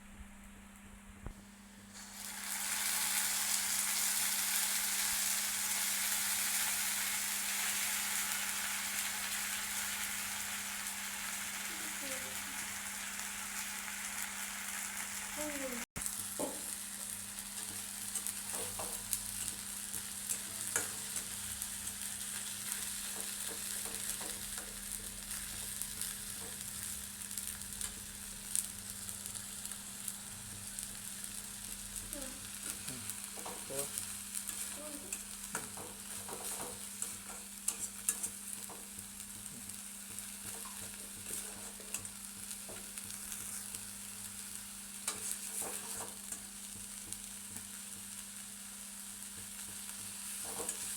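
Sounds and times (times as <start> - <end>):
food sizzling in oil: 1.8 - 50.9.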